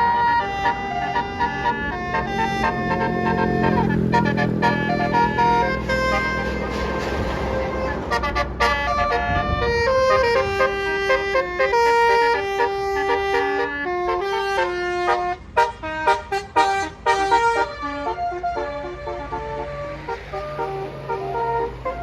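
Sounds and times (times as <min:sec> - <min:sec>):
musical bus horn melody: 0:00.0 - 0:22.0.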